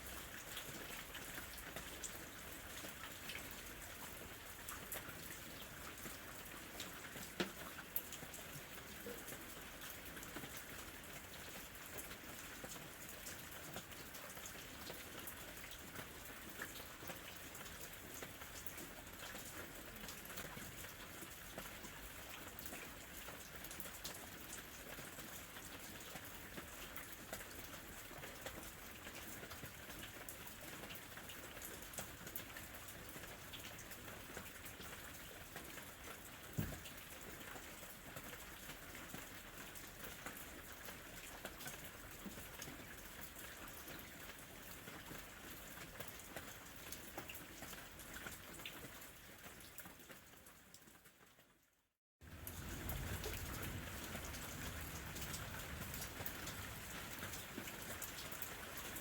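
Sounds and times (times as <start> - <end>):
gentle rain falling: 0.0 - 59.0.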